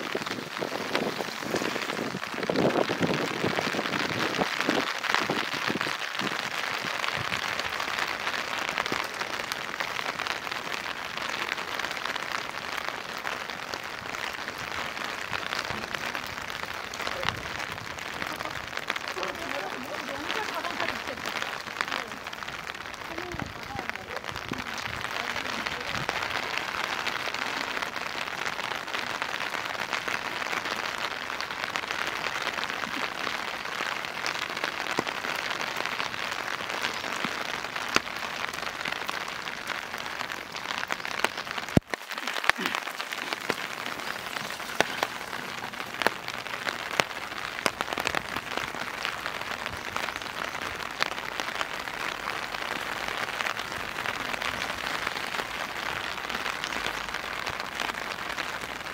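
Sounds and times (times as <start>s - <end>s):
raindrops ticking on surfaces: 0.0s - 58.9s
steady rain falling: 0.0s - 58.9s.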